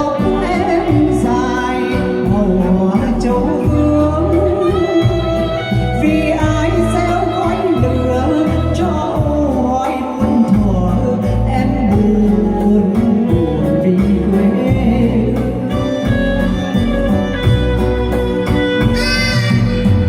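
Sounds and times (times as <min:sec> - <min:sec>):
instrumental backing with bass line: 0:00.0 - 0:20.0
person singing: 0:00.0 - 0:20.0.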